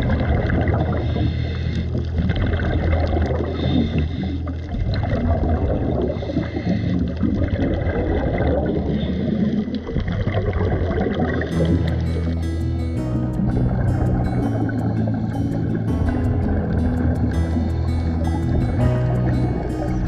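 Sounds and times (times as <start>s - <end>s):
churning gurgling water: 0.0s - 20.0s
low underwater hum: 0.0s - 20.0s.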